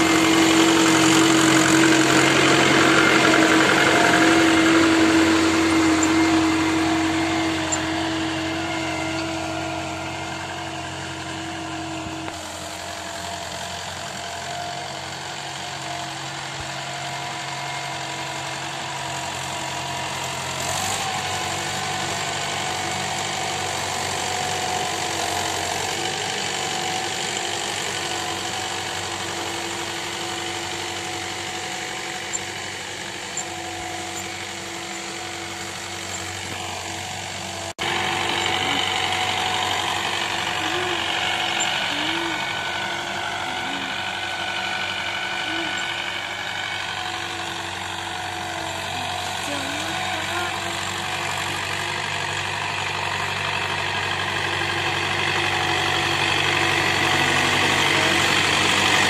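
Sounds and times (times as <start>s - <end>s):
diesel tractor engine: 0.0s - 59.0s.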